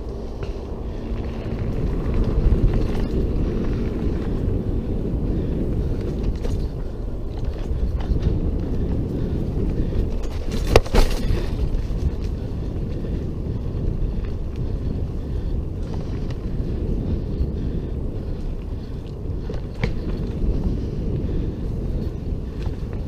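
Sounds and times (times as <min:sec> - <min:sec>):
bike rattling and knocking: 0:00.0 - 0:23.0
bike tyres rumbling over dirt: 0:00.0 - 0:23.0
wind buffeting microphone: 0:00.0 - 0:23.0.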